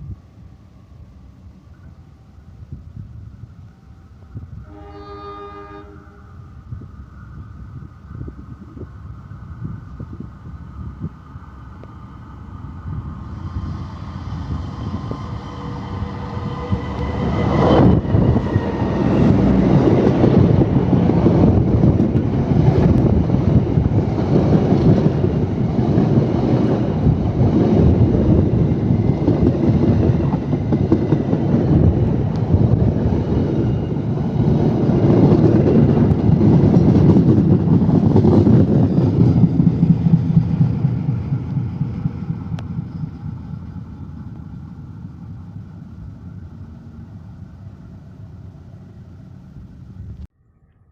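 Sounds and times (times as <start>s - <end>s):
diesel locomotive passing: 0.0s - 50.3s
wheels rumbling and rattling on rails: 0.0s - 50.3s.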